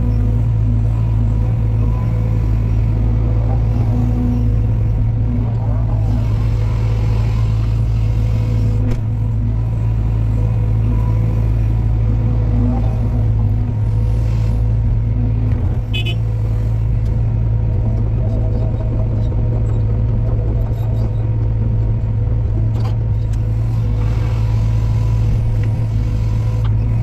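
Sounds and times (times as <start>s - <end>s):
diesel machinery engine running: 0.0s - 27.0s.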